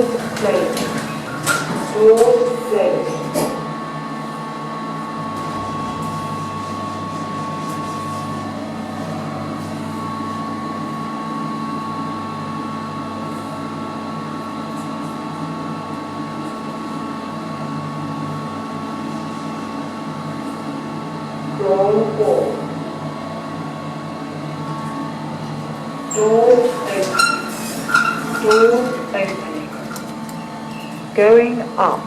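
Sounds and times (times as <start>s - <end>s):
lift mechanical hum: 0.0s - 32.0s.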